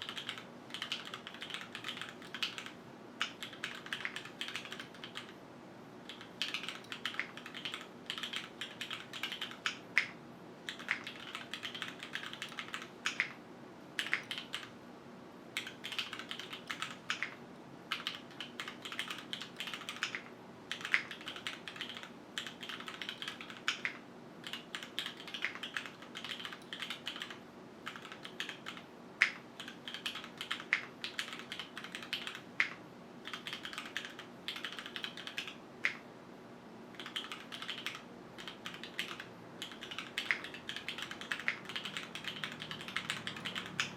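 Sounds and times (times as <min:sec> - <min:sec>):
mechanical keyboard typing: 0:00.0 - 0:05.4, 0:06.1 - 0:13.4, 0:14.0 - 0:14.8, 0:15.6 - 0:36.0, 0:36.9 - 0:43.9.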